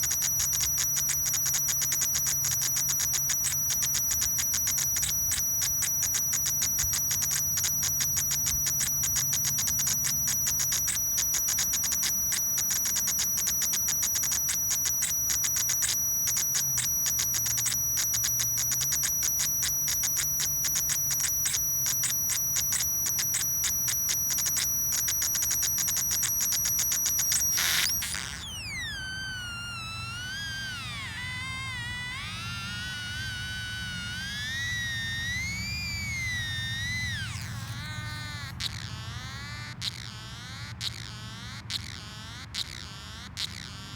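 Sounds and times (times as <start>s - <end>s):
electronic cicada buzzing tone: 0.0s - 43.9s
warbling electronic tone: 0.0s - 43.9s.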